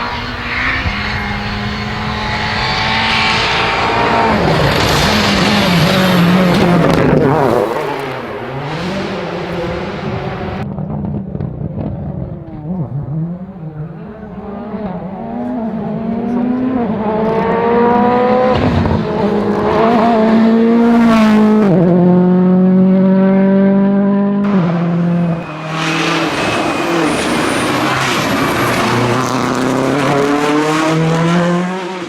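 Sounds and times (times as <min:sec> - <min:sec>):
rally car engine accelerating hard: 0:00.0 - 0:32.0.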